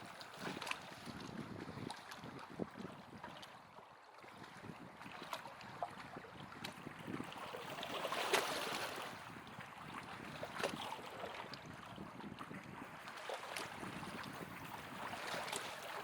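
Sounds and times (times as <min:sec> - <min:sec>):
small waves lapping: 0:00.0 - 0:16.0
wind on microphone: 0:00.4 - 0:03.6, 0:04.3 - 0:08.0, 0:08.6 - 0:15.9.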